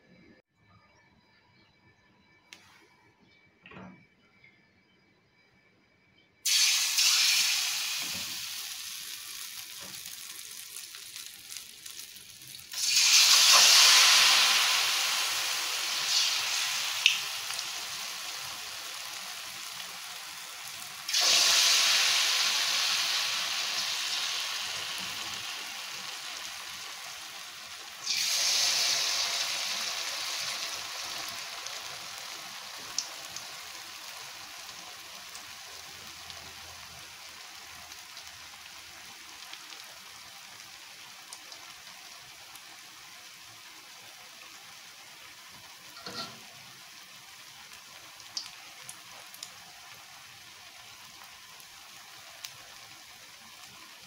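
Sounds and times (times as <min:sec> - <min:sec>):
batter frying in hot oil: 0:06.4 - 0:54.0.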